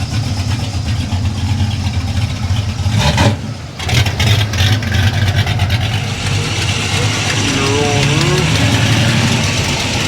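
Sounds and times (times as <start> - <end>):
car engine pulsing rumble: 0.0 - 10.0.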